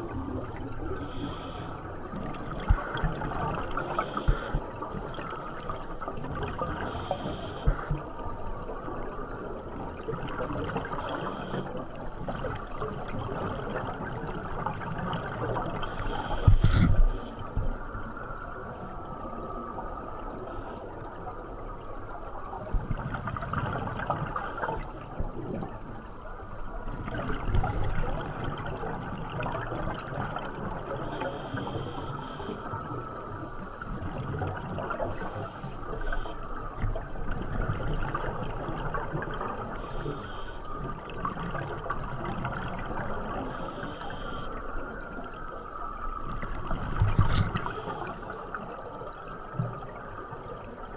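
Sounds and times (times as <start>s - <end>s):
underwater rush of water: 0.0s - 50.9s.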